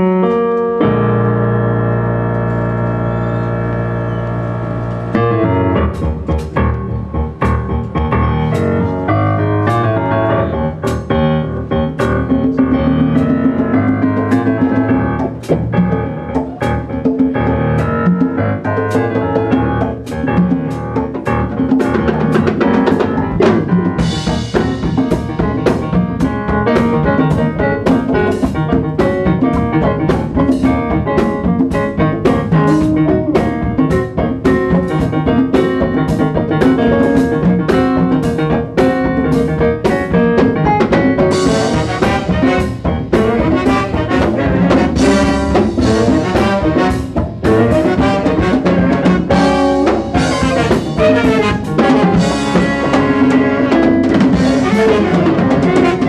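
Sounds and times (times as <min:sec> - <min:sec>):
stage keyboard piano: 0:00.0 - 0:56.0
drum kit steady beat: 0:04.1 - 0:09.4, 0:10.5 - 0:56.0.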